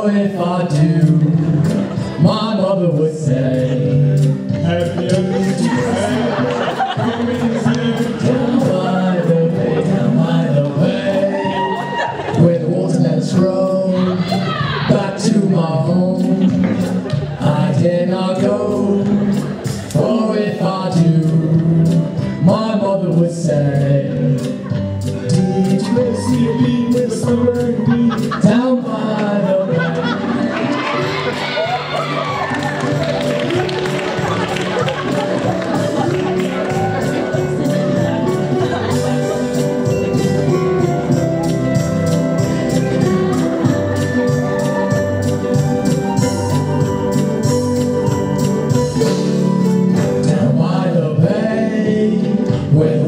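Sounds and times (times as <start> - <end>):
man singing long notes: 0.0 - 31.1, 35.7 - 53.0
music: 0.0 - 53.0.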